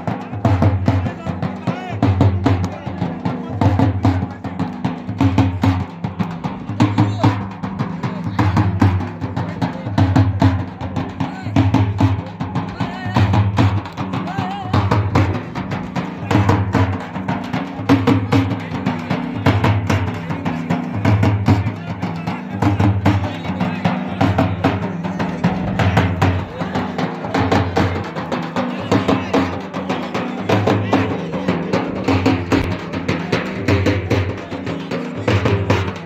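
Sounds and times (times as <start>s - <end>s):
drumming on large hand drums: 0.0s - 36.0s.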